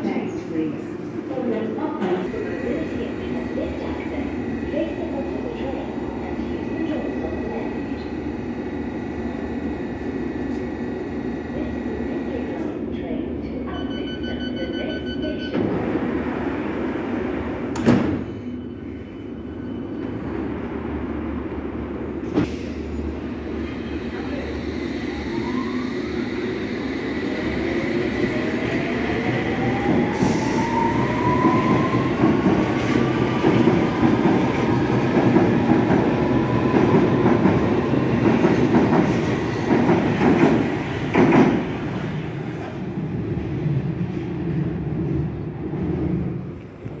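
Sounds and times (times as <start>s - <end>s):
train rumble: 0.0s - 14.2s, 20.0s - 47.0s.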